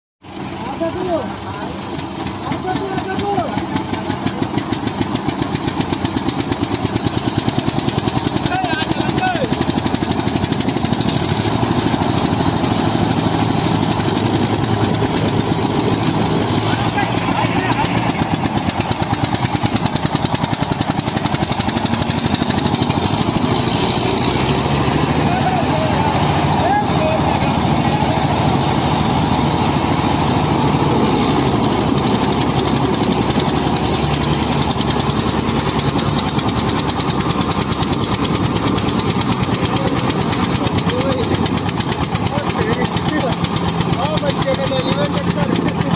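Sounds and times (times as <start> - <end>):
diesel tractor engines under load: 0.2 - 45.9.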